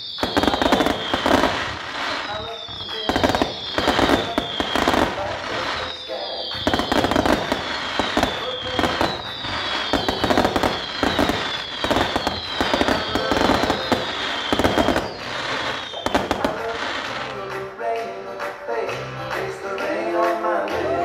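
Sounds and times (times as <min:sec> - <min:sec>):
falling firework whistle: 0:00.0 - 0:17.4
fireworks bangs: 0:00.0 - 0:18.0
fireworks crackling and popping: 0:00.0 - 0:20.2.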